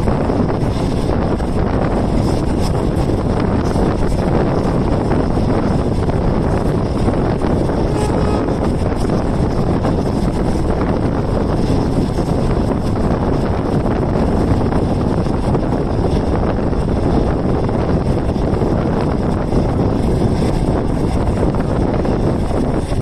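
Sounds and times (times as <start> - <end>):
train running rumble: 0.0 - 23.0
wind rush: 0.0 - 23.0.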